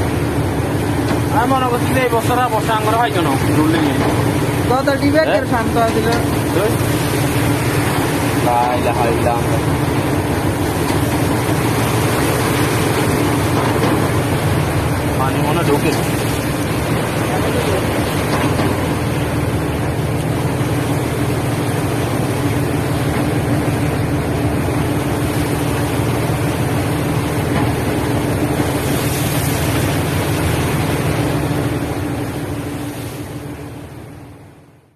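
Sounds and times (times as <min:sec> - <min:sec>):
sea washing across deck: 0:00.0 - 0:34.9
ship engine drone: 0:00.0 - 0:34.9.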